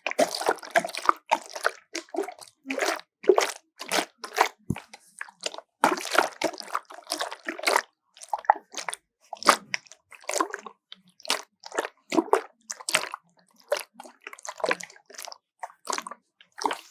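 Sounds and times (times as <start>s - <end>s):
water sloshing in a bottle: 0.0s - 16.9s.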